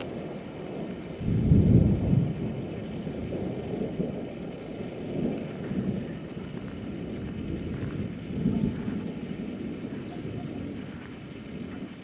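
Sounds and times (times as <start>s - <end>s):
rolling thunder rumble: 0.0s - 12.0s.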